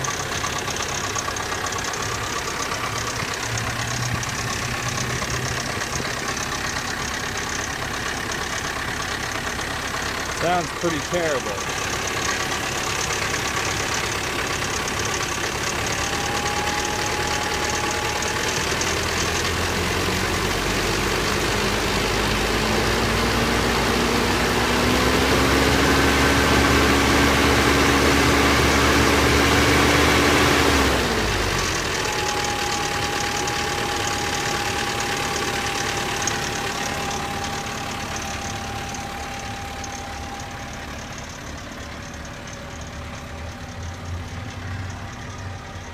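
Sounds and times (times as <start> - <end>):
four-cylinder engine running: 0.0 - 45.9.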